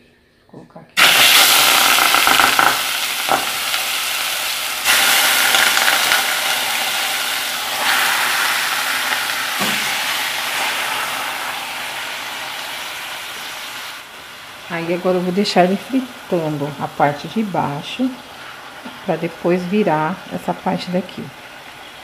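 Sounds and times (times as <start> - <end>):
chicken sizzling in hot oil: 1.0 - 22.0.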